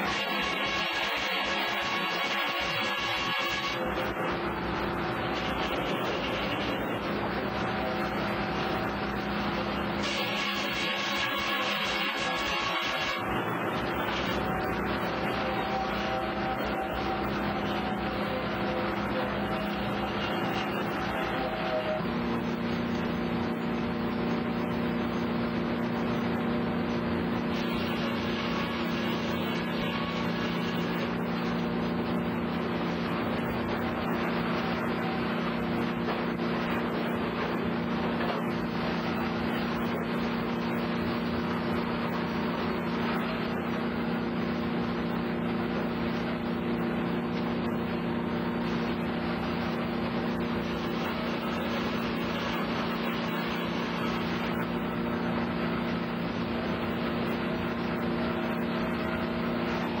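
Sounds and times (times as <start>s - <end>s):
busy mechanical noise: 0.0s - 60.0s
electric motors humming: 0.0s - 60.0s.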